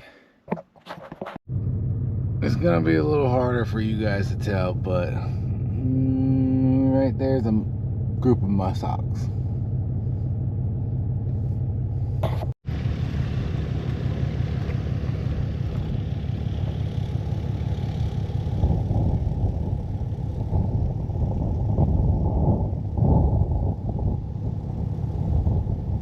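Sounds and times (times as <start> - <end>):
low rumble: 1.5 - 26.0.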